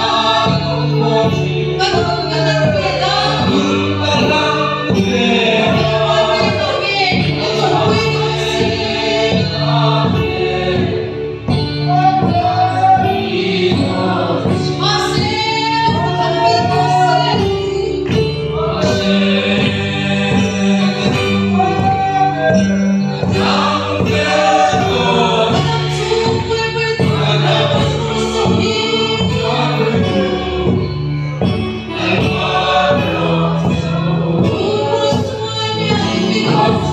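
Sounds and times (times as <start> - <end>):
congregation singing a worship song: 0.0 - 36.9.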